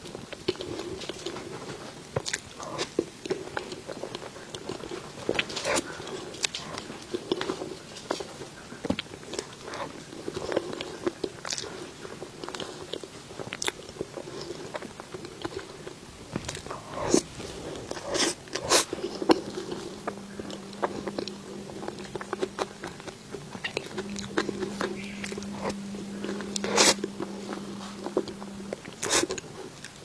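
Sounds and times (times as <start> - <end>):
person chewing cake: 0.0 - 30.0.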